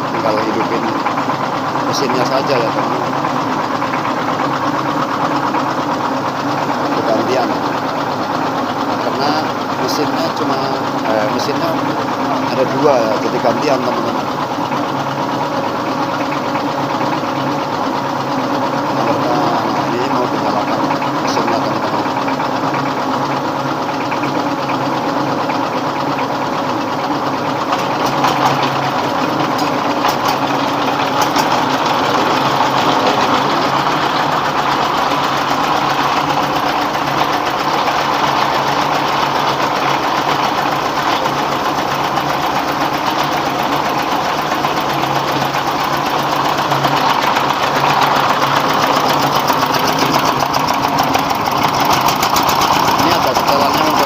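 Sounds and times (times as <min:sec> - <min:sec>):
diesel engine running under load: 0:00.0 - 0:54.0
milling machinery rattling: 0:00.0 - 0:54.0.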